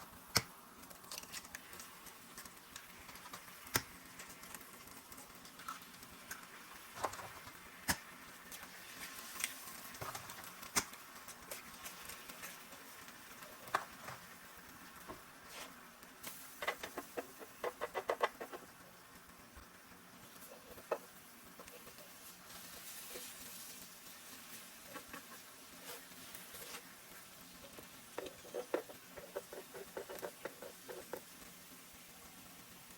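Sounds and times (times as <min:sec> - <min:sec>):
food sizzling on griddle: 0:00.0 - 0:32.9.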